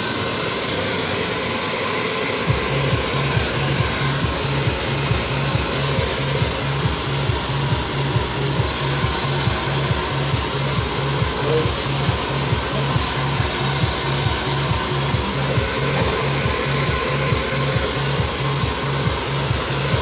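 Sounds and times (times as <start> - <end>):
background music with bass beat: 0.0 - 20.0
hair dryer blowing: 0.0 - 20.0.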